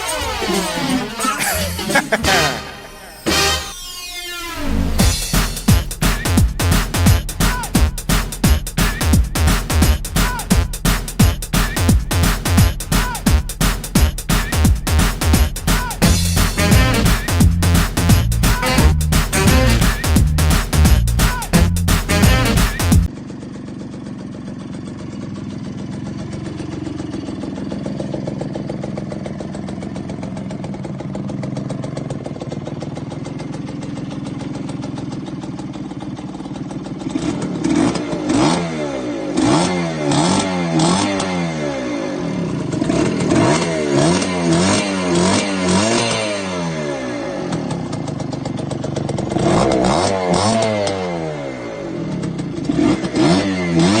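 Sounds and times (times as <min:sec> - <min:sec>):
moped engine idling and revving: 0:00.0 - 0:03.3, 0:04.6 - 0:54.0.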